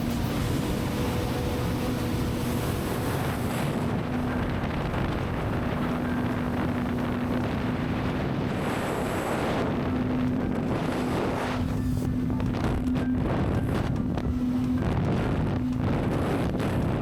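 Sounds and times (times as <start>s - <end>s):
jet ski engine running: 0.0s - 17.0s
wind on microphone: 0.0s - 17.0s.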